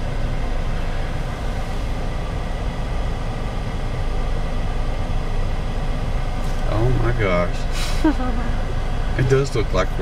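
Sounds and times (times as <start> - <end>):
car engine idling: 0.0 - 10.0
tyres rolling on road: 0.0 - 10.0.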